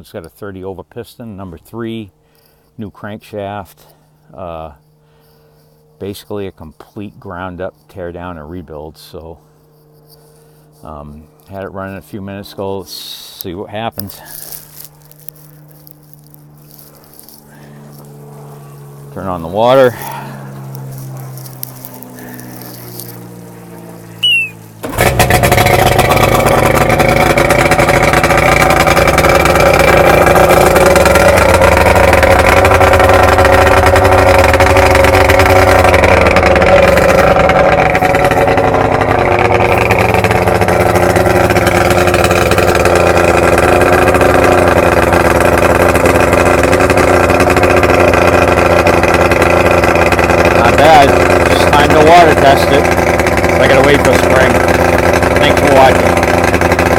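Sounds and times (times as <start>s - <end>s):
outboard motor starting and running: 0.0s - 56.9s.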